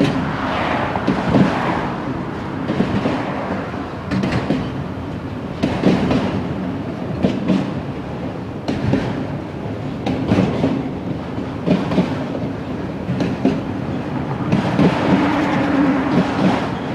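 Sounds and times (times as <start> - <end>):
train wheels clacking: 0.0 - 8.0, 8.6 - 16.9
steel wheels rumbling on rail: 0.0 - 16.9.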